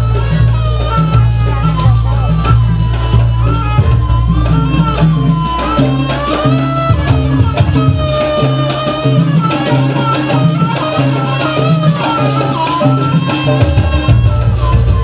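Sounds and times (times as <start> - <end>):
quick dense percussion: 0.0 - 15.0
wavering lead melody: 0.0 - 15.0.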